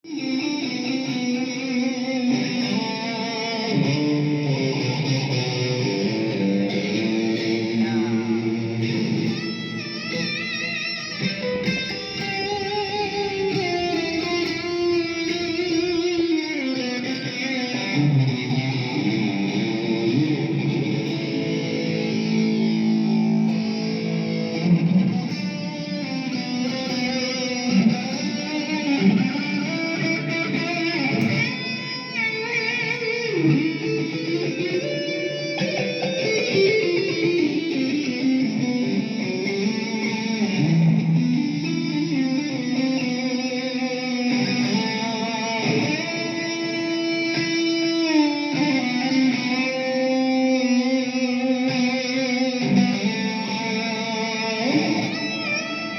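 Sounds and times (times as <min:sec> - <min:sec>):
electric guitar playing: 0:00.0 - 0:55.9.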